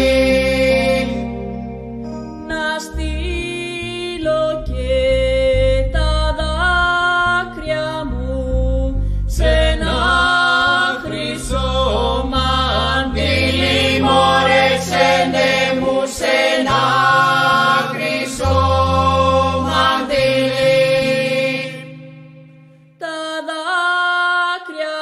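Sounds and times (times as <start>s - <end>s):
low bass line: 0.0s - 22.8s
polyphonic folk singing: 0.0s - 25.0s.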